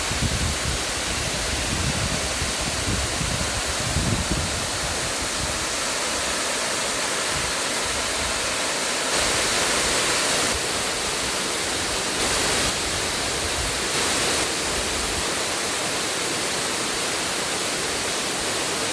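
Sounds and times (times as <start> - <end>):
rushing water: 0.0 - 18.9.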